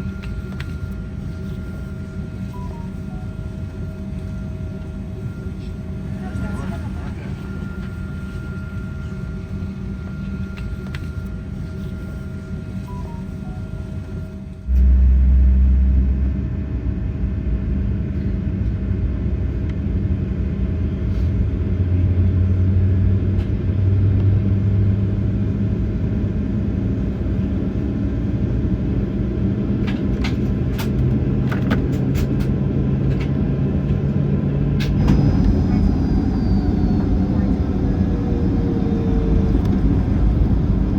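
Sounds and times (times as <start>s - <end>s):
jet engines rumbling in cabin: 0.0s - 40.9s.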